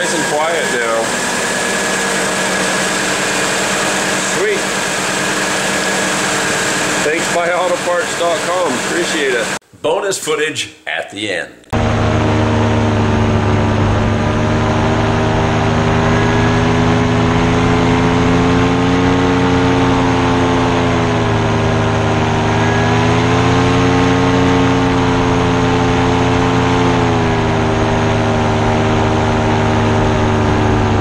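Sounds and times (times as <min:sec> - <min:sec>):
paramotor engine and propeller: 0:00.0 - 0:09.6, 0:11.8 - 0:31.0.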